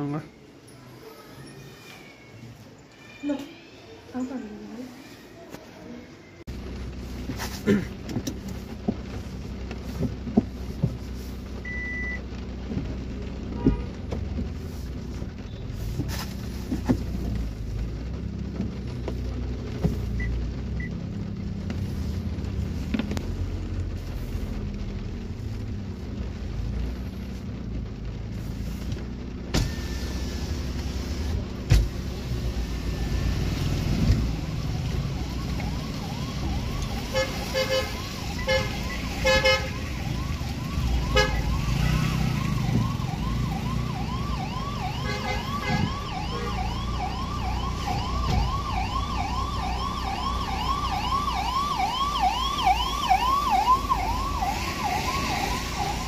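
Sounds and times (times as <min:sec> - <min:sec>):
rain on windscreen and roof: 0:00.0 - 0:56.0
car rumble: 0:06.4 - 0:56.0.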